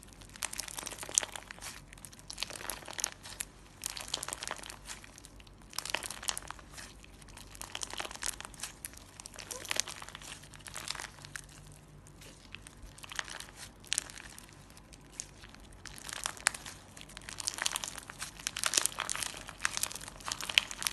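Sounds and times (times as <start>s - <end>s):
slime crackling and popping: 0.0s - 20.9s.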